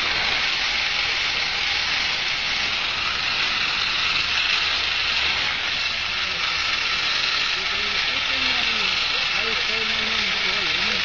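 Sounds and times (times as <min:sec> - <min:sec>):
cotton picking machine hissing: 0:00.0 - 0:11.0.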